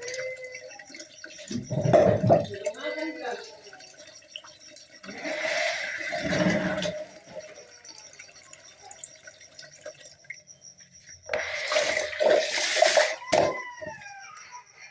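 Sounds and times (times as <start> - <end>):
tap running into basin: 0.0 - 14.3
faint water drips: 0.0 - 14.9.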